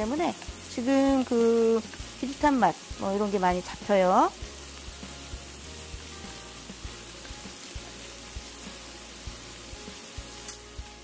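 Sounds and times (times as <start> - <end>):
beef sizzling in a frying pan: 0.0 - 11.0
soft background music: 0.0 - 11.0.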